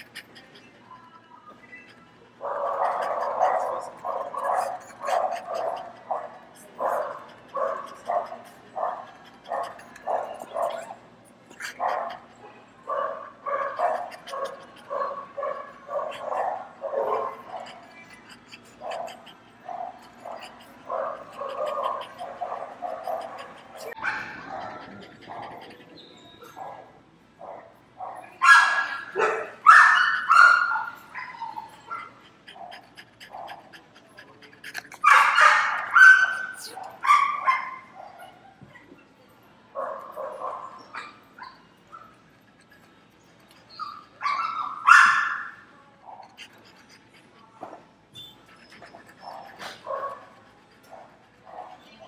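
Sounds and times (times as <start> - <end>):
dogs barking: 0.0 - 0.8, 1.8 - 38.6, 39.8 - 52.0.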